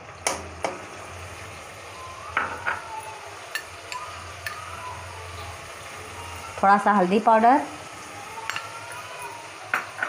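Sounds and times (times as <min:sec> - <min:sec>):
spices sizzling in oil: 0:00.0 - 0:10.0.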